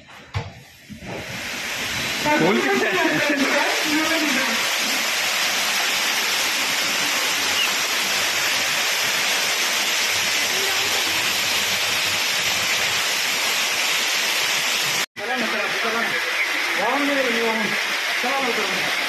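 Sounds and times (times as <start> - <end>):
floodwater rushing: 0.9 - 19.0.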